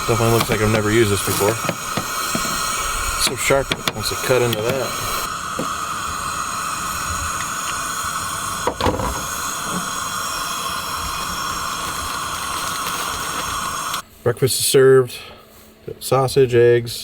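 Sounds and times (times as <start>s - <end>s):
food hissing on camp stove: 0.0s - 14.0s.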